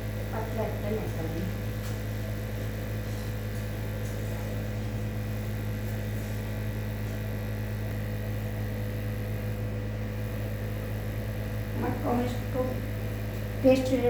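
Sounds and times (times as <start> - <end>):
low hum with fixed tones: 0.0 - 14.0.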